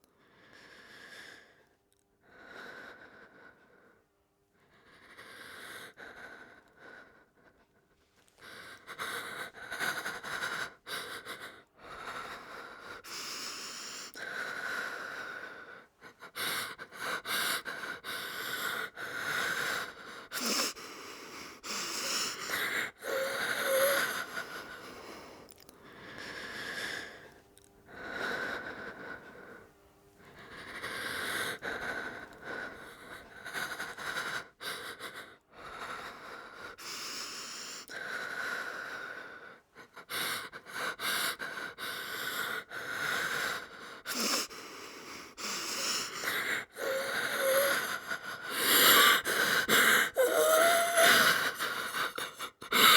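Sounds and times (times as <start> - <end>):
woman breathing hard: 8.4 - 52.9.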